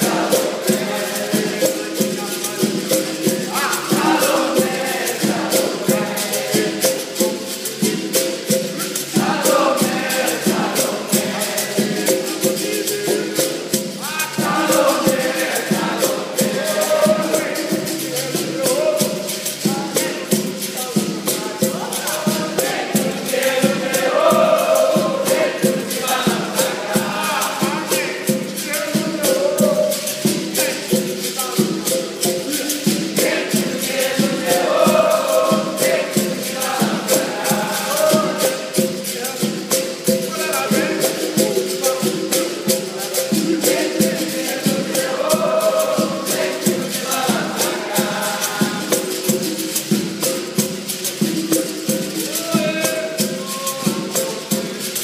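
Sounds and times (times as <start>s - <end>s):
hand percussion: 0.0s - 55.0s
person singing: 0.0s - 55.0s
shaken rattles: 0.0s - 55.0s.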